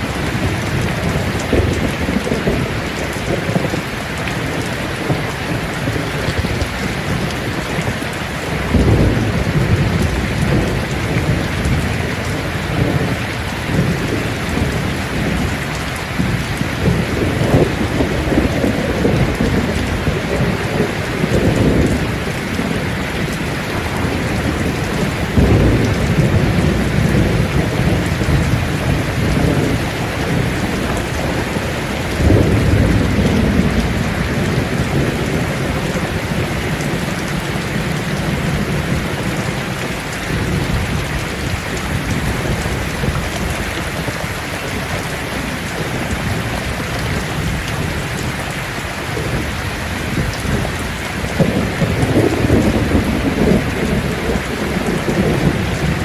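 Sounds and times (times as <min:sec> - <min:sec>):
thunder rolling: 0:00.0 - 0:44.9, 0:49.2 - 0:56.0
rain falling on leaves: 0:00.0 - 0:56.0.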